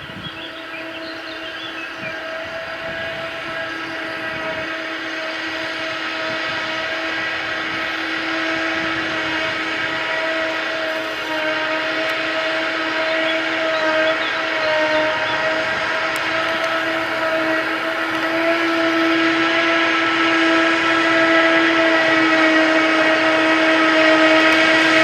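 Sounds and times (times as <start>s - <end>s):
heavy machinery whining: 0.0s - 25.0s.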